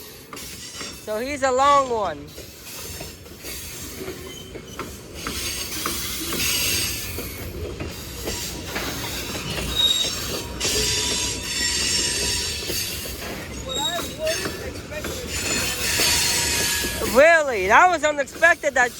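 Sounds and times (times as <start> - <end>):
train wheels squealing: 0.0 - 17.6
train rumble: 0.0 - 18.9
train wheel clicks: 0.0 - 18.9.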